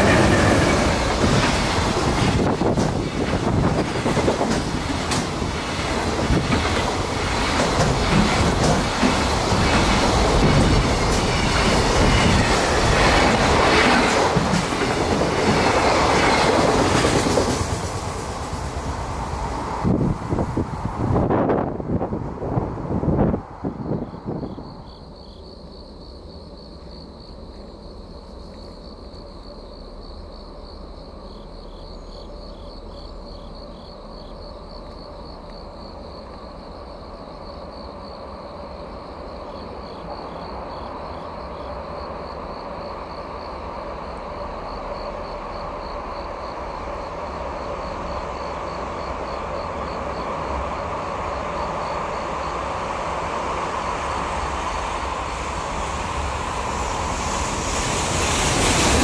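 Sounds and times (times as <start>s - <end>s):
freight train rumble: 0.0s - 59.0s
insect chirping: 0.0s - 59.0s.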